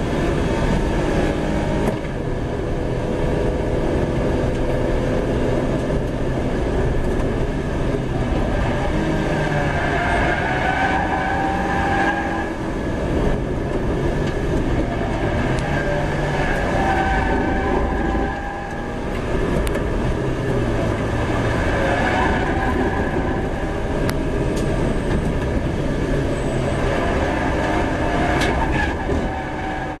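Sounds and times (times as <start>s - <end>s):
car engine revving under load: 0.0s - 30.0s
tyre and road rumble: 0.0s - 30.0s.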